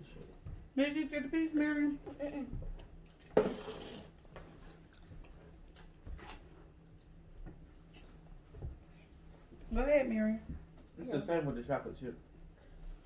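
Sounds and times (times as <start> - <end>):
children eating at a table: 0.0 - 13.0.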